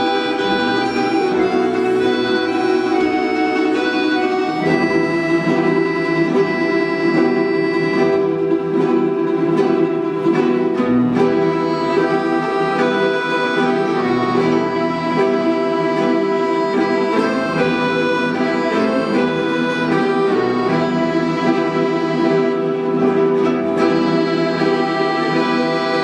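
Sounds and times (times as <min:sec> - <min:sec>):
accordion sustained chords: 0:00.0 - 0:26.0
plucked and tremolo strings: 0:00.0 - 0:26.0.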